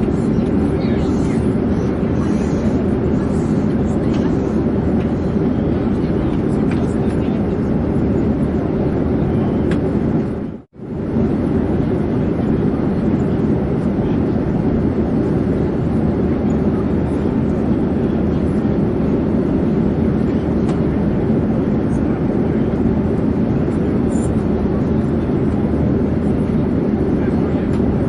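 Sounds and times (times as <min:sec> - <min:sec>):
airplane drone: 0:00.0 - 0:28.0.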